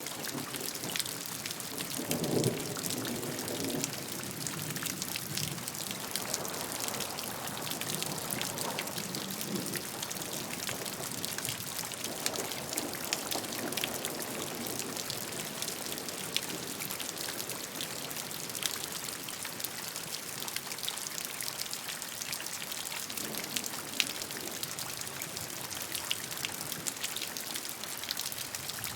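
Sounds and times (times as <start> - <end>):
steady rainfall: 0.0 - 28.9.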